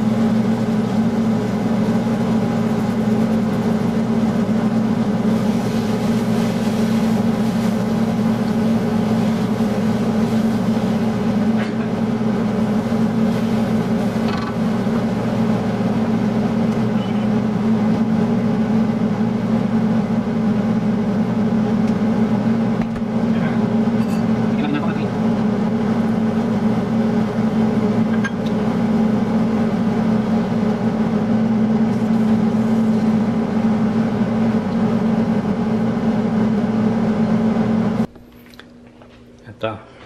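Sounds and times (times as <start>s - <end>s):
range-hood exhaust fan humming: 0.0s - 40.0s.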